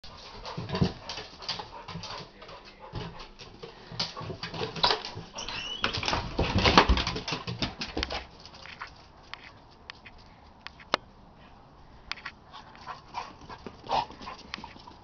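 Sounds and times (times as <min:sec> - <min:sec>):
dogs scuffling and pattering: 0:00.0 - 0:10.4, 0:12.5 - 0:15.0.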